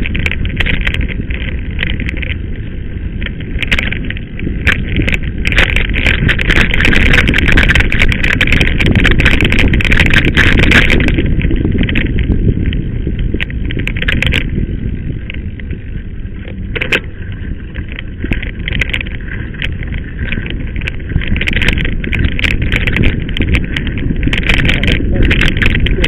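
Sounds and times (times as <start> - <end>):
bike rolling over dirt rumble: 0.0 - 26.0
tyres rattling on gravel: 0.0 - 26.0.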